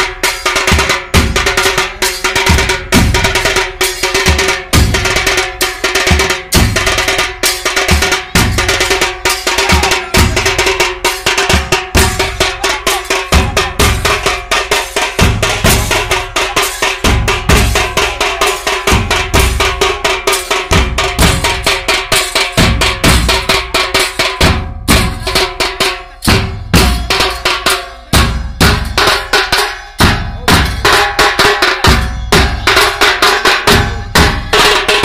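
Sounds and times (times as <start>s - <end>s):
hand cymbals clashing: 0.0s - 35.0s
large bass drums beating: 0.0s - 35.0s.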